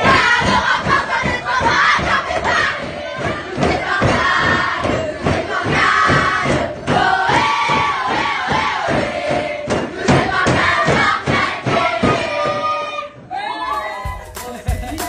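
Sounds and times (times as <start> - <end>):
fast beat of sharp strokes: 0.0 - 12.8, 13.7 - 15.0
girls chanting and singing: 0.0 - 14.2.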